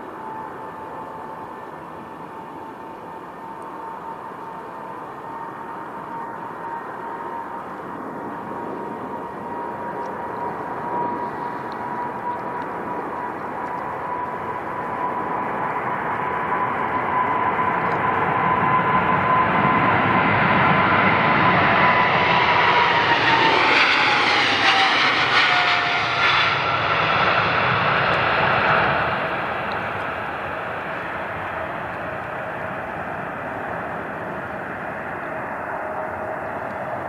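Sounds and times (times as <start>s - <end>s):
jet airliner passing: 0.0s - 37.0s.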